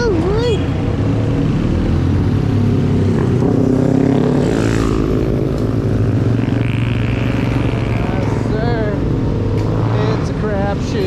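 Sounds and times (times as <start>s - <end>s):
engine speeding up: 0.0s - 11.0s
vehicle engines running: 0.0s - 11.0s.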